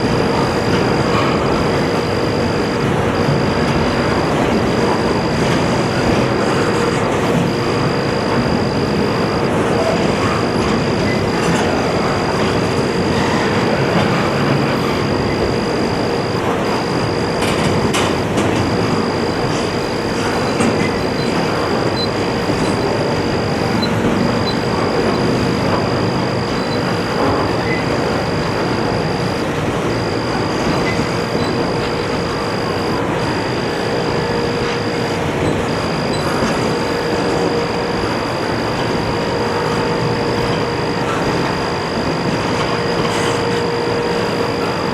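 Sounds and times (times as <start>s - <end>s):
thin high whine: 0.0s - 44.9s
train wheels on rails: 0.0s - 44.9s.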